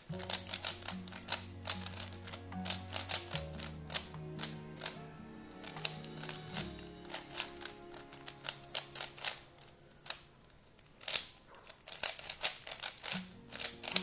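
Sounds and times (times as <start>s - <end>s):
background music: 0.0s - 10.7s, 13.1s - 14.0s.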